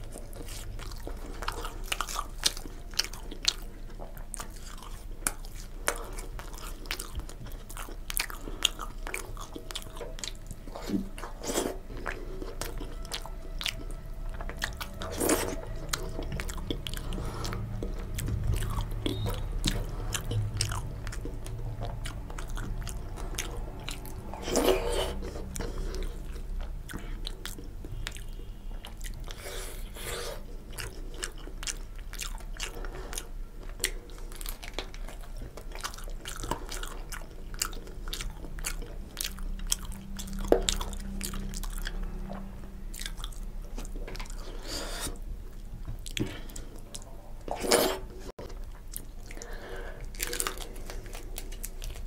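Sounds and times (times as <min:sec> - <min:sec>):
chewing and wet mouth sounds: 0:00.0 - 0:52.0
low steady hum: 0:00.0 - 0:52.0.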